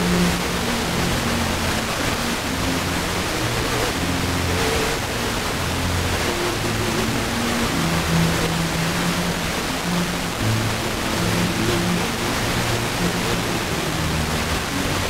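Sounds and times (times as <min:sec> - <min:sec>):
faint classical music: 0:00.0 - 0:15.0
radio static hiss: 0:00.0 - 0:15.0.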